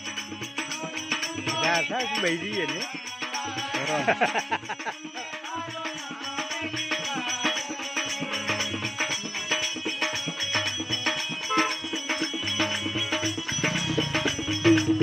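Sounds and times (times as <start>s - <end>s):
fast rhythmic percussion: 0.0s - 15.0s.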